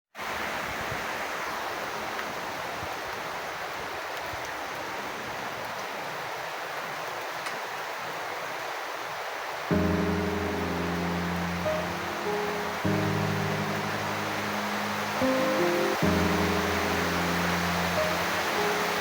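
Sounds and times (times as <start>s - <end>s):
rain falling steadily: 0.2s - 19.0s.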